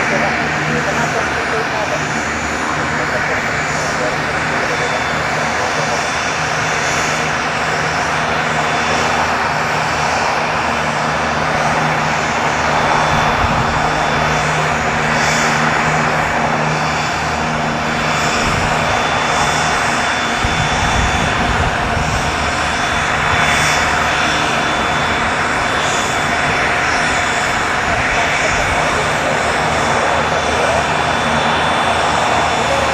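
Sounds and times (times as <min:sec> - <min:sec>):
aircraft engine droning: 0:00.0 - 0:32.9.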